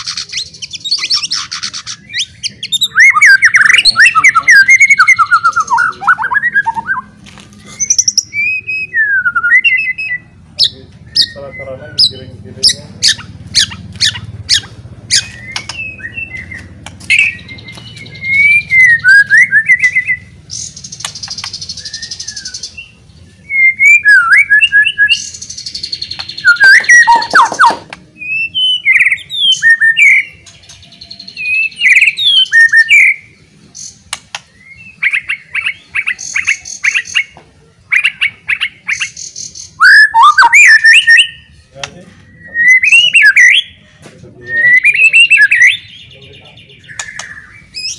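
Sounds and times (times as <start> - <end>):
songbird singing loudly: 0.0 - 7.1, 7.7 - 47.9.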